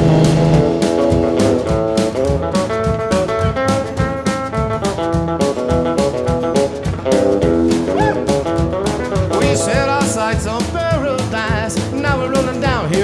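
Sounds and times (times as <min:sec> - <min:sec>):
steady drum beat: 0:00.0 - 0:13.0
upbeat country instrumental: 0:00.0 - 0:13.0.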